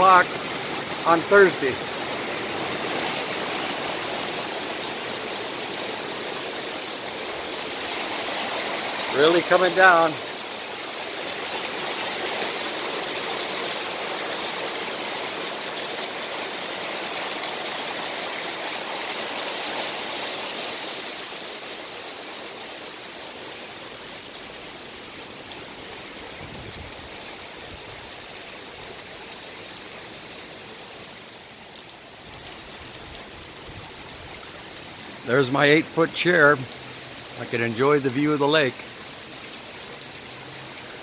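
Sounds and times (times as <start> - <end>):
heavy rain on patio: 0.0 - 41.0.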